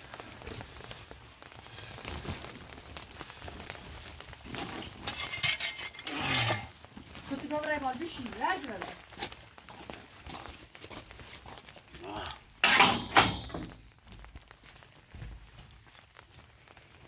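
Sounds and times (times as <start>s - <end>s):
woven bag rustling: 0.0s - 17.0s.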